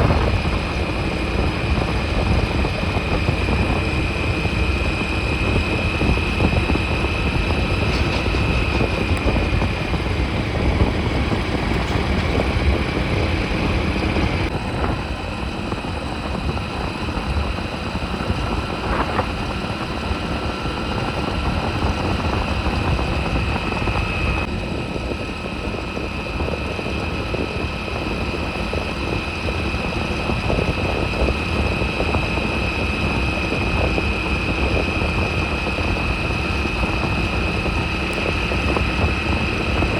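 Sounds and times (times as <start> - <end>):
motorcycle engine and wind rumble: 0.0 - 39.9.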